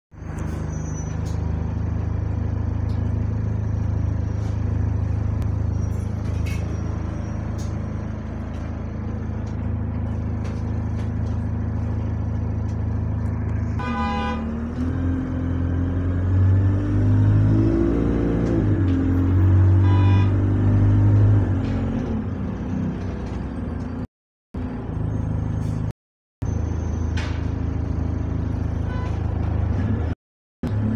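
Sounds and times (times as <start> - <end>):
bus engine: 0.1 - 30.9.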